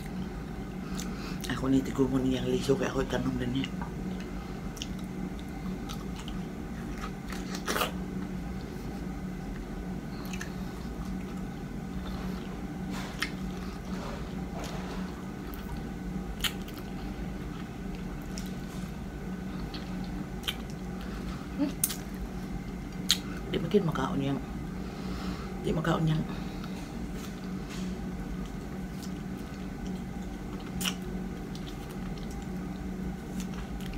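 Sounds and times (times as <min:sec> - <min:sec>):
person chewing soft fruit: 0:00.0 - 0:01.6, 0:03.6 - 0:23.5, 0:26.4 - 0:33.9
steady low hum: 0:00.0 - 0:33.9.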